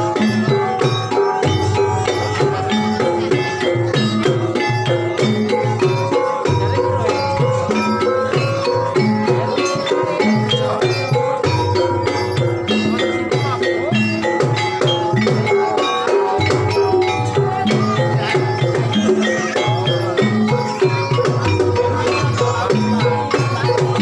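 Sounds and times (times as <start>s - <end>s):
hand drums: 0.0s - 24.0s
tuned percussion ringing notes: 0.0s - 24.0s.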